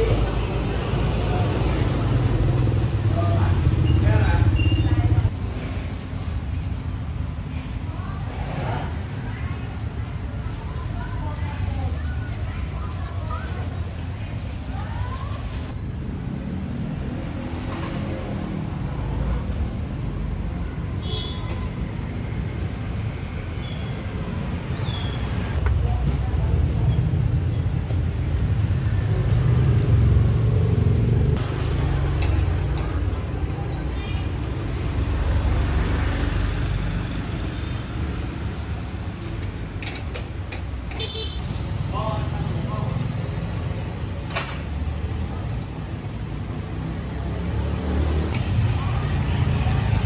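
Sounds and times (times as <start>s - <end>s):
street background rumble: 0.0s - 50.0s.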